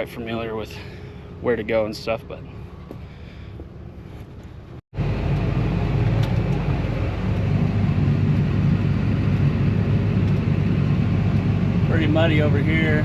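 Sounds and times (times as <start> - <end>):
heavy vehicle engine rumbling: 0.0 - 13.0
quiet engine hum: 0.0 - 13.0.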